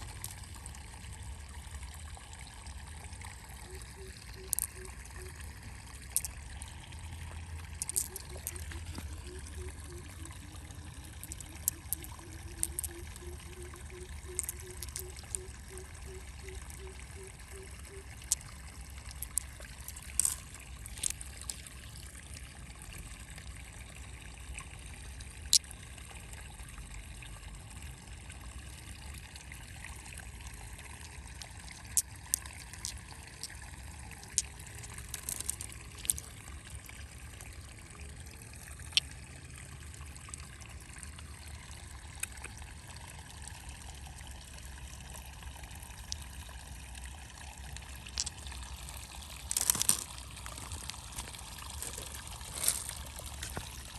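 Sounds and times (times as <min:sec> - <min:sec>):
water trickling: 0:00.0 - 0:53.9.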